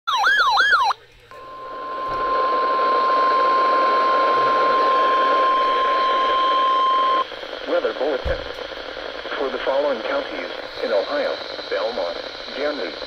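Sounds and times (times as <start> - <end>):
radio hiss: 0.8 - 13.0.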